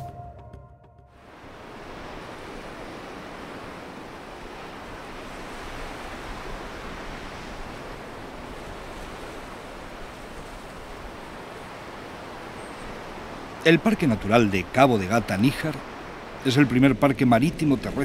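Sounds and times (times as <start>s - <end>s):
wind: 1.1s - 18.0s
sea surf: 1.2s - 18.0s.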